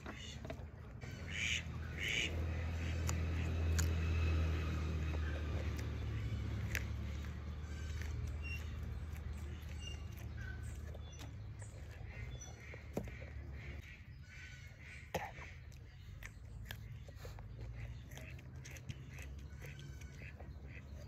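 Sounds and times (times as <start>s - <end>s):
chewing raw vegetables: 0.0s - 21.0s.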